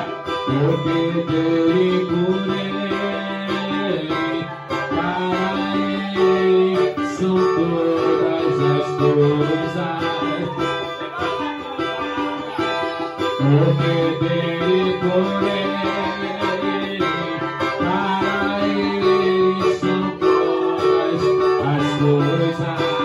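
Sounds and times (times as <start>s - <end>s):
cavaquinho playing: 0.0s - 23.0s
man singing long notes: 0.0s - 23.0s.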